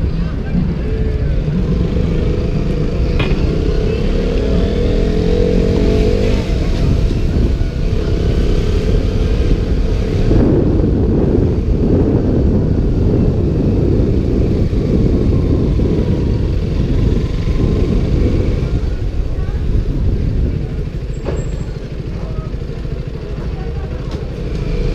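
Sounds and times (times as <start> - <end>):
motorcycle engine running: 0.0 - 24.9
wind buffeting microphone: 0.0 - 24.9.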